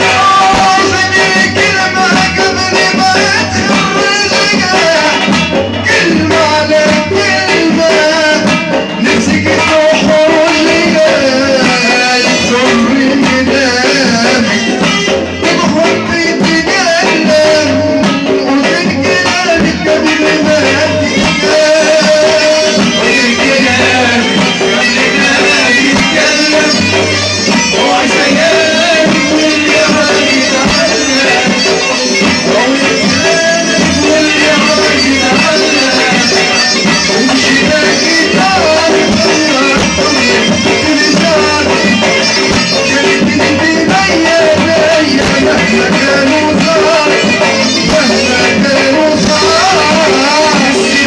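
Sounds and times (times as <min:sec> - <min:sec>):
percussion beat: 0:00.0 - 0:51.0
person singing folk melody: 0:00.0 - 0:51.0.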